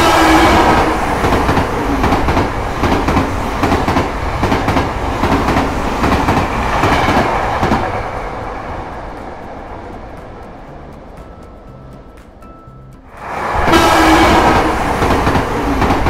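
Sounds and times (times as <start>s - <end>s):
train wheels clacking on rails: 0.0s - 16.0s.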